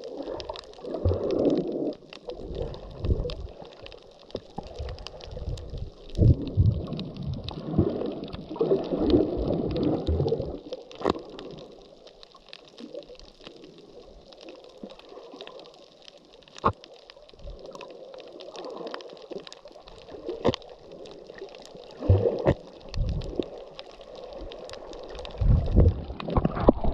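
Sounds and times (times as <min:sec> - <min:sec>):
muffled underwater sloshing: 0:00.0 - 0:26.9.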